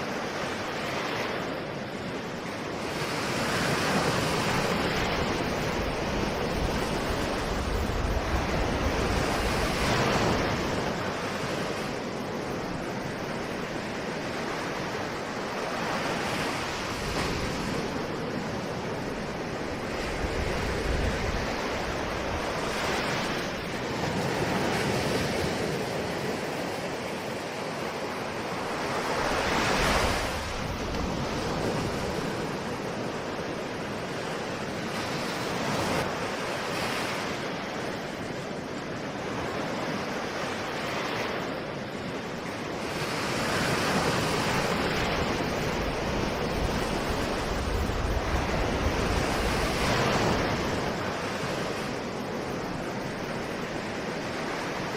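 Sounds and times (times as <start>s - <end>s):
waves breaking on a shore: 0.0s - 54.9s.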